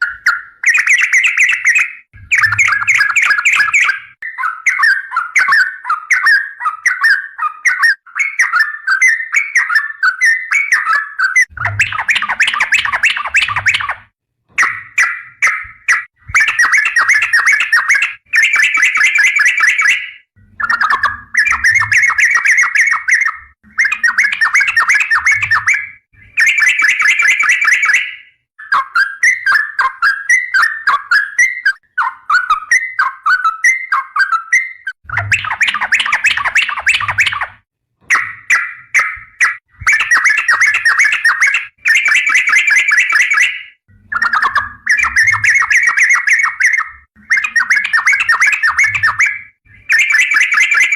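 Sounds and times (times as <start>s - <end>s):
bird singing bubbly chattering phrases: 0.0s - 50.9s.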